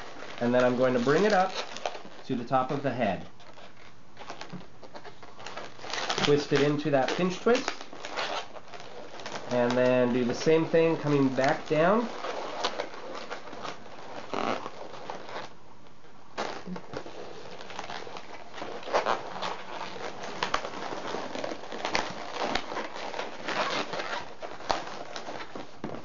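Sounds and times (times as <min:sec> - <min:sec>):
balloons squeaking: 0:00.0 - 0:26.0.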